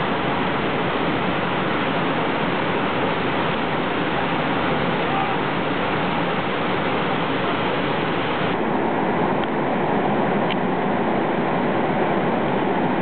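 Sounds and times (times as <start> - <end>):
whitewater rushing over waterfalls: 0.0 - 13.0.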